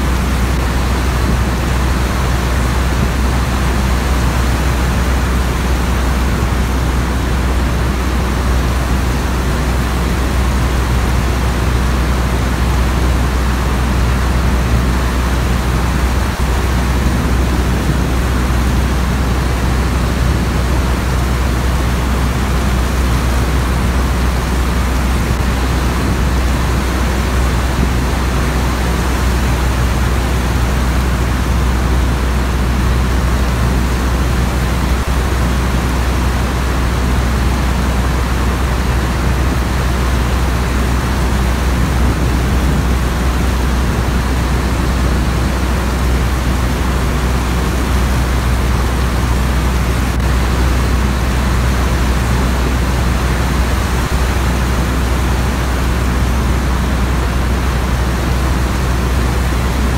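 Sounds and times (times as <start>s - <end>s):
biplane engine drone: 0.0s - 59.9s
rain hiss: 0.0s - 59.9s.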